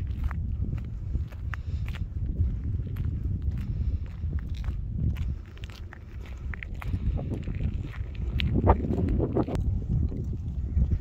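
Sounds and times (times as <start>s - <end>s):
footsteps on gravel: 0.0s - 11.0s
low rumble: 0.0s - 11.0s.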